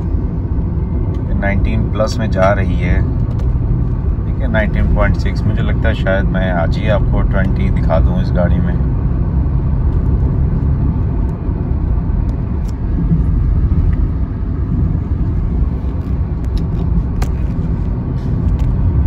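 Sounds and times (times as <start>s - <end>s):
car engine hum inside cabin: 0.0s - 19.0s
road and tyre noise: 0.0s - 19.0s.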